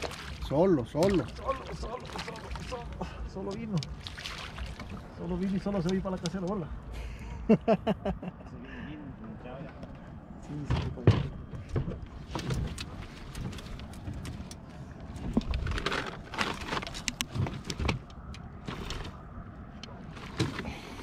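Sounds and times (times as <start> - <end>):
knocks and clatter in a boat: 0.0 - 6.7, 9.3 - 21.0
steady low rumble: 0.0 - 21.0.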